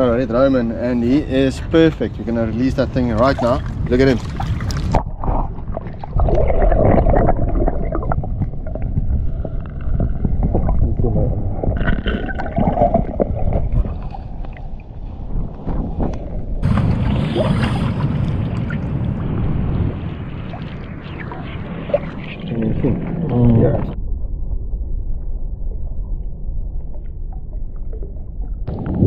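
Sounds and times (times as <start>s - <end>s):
muffled underwater sloshing: 0.0s - 24.0s.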